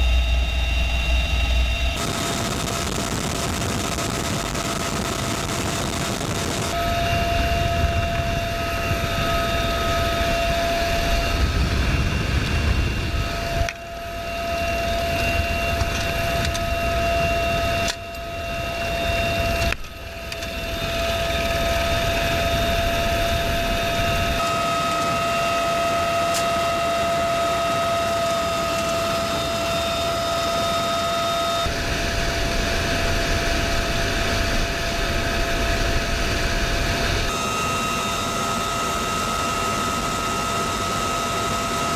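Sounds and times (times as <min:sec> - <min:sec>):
helicopter rotor and turbine noise: 0:00.0 - 0:41.9
high transmission whine: 0:00.0 - 0:41.9.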